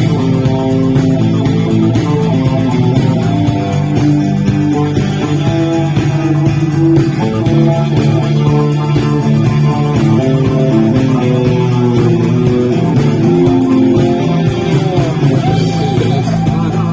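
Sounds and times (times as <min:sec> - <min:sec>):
bass guitar: 0:00.0 - 0:16.9
guitar: 0:00.0 - 0:16.9
rock band playing: 0:00.0 - 0:16.9.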